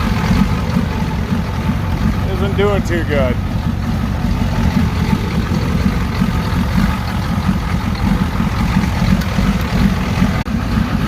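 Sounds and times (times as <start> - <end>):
diesel engine idling unevenly: 0.0 - 11.0.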